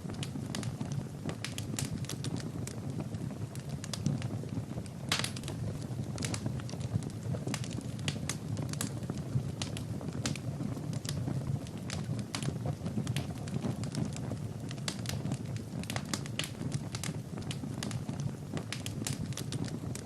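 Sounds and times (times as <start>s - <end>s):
fire crackling in fireplace: 0.0s - 20.0s.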